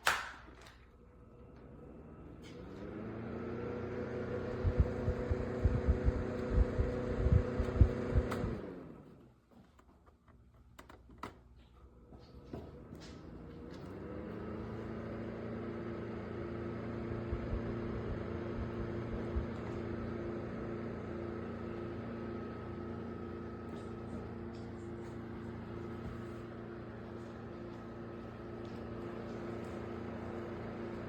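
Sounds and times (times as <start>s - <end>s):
fan humming with rushing air: 0.9s - 9.4s, 11.3s - 31.0s.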